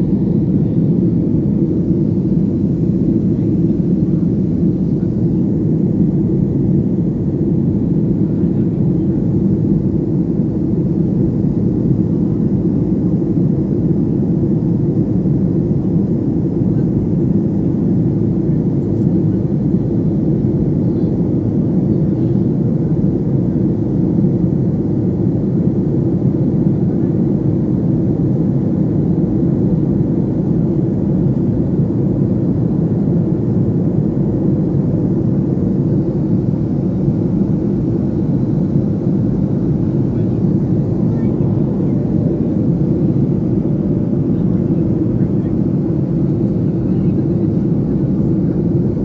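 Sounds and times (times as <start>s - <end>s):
airliner cabin rumble: 0.0s - 49.0s.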